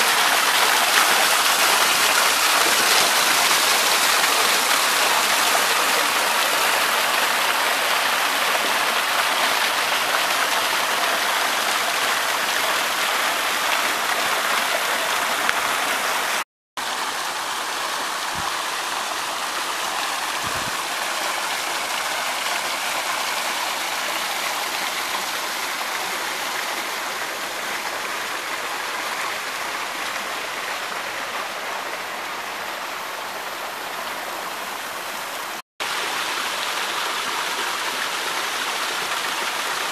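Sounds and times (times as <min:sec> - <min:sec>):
waterfall splashing onto rocks: 0:00.0 - 0:31.0, 0:35.8 - 0:39.9.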